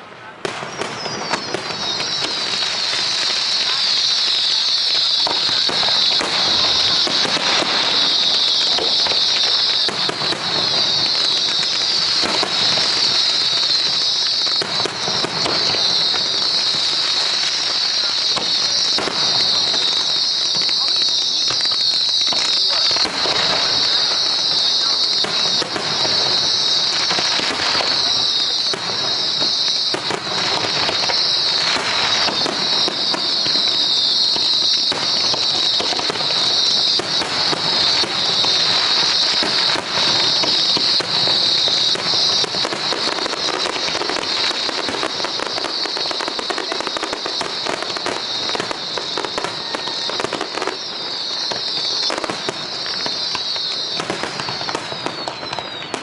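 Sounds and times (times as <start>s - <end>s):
fireworks hiss: 0.0s - 56.0s
fireworks popping and crackling: 0.0s - 56.0s.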